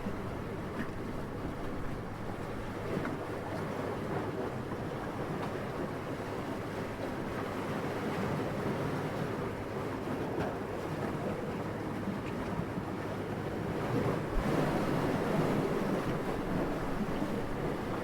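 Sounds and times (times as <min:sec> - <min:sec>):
soft steady wind: 0:00.0 - 0:18.0.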